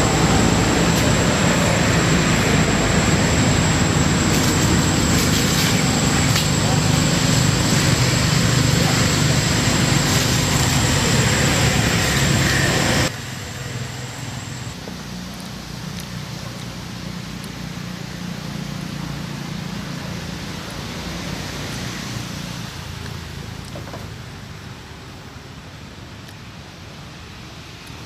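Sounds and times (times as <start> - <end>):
vehicle engine running: 0.0 - 23.8.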